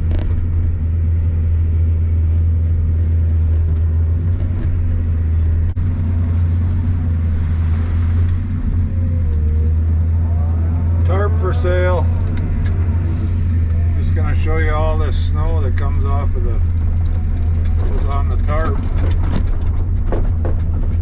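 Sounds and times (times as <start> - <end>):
excavator diesel engine drone: 0.0 - 21.0.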